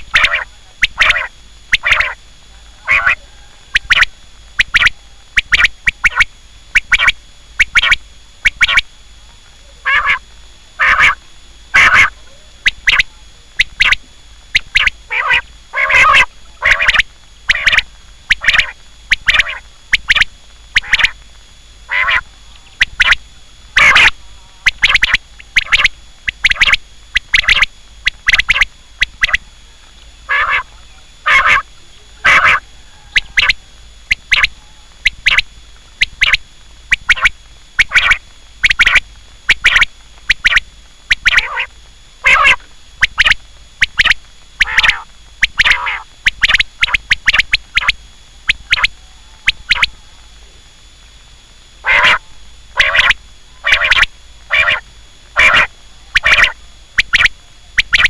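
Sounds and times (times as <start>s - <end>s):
quail calling: 0.0s - 8.9s, 9.8s - 10.2s, 10.8s - 21.2s, 21.9s - 29.4s, 30.3s - 50.2s, 51.8s - 58.0s
faint high whine: 0.0s - 58.0s.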